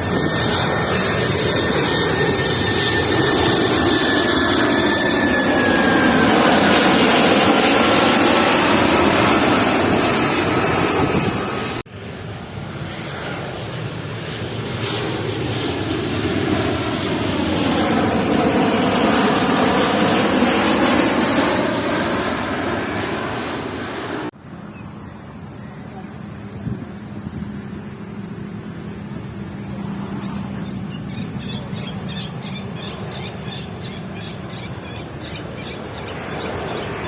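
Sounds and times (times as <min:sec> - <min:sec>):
jet airliner engines roaring: 0:00.0 - 0:37.0.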